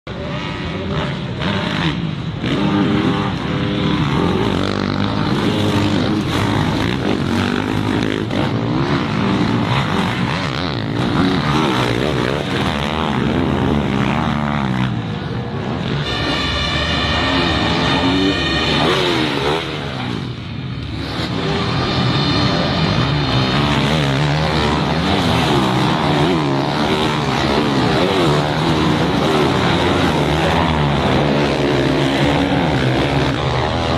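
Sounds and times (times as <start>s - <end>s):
dirt bike engines revving: 0.1s - 33.9s.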